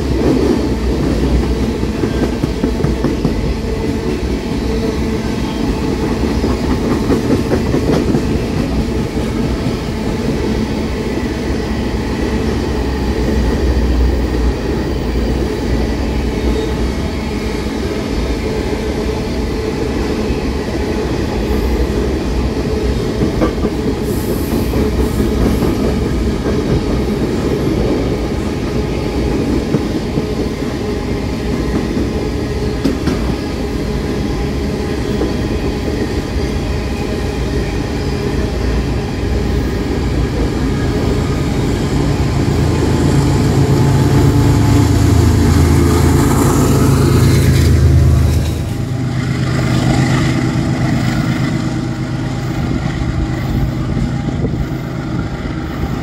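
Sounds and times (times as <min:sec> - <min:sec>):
railway cars rumbling past: 0:00.0 - 0:56.0.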